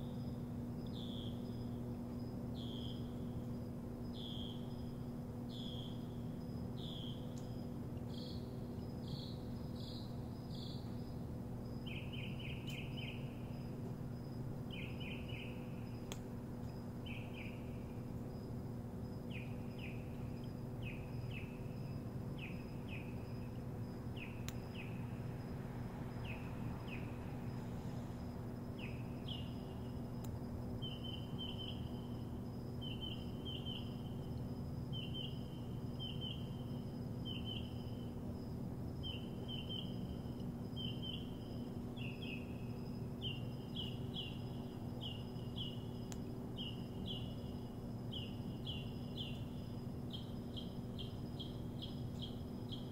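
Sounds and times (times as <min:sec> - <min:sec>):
songbird chirping: 0:00.0 - 0:38.2, 0:39.0 - 0:52.9
steady low hum: 0:00.0 - 0:52.9.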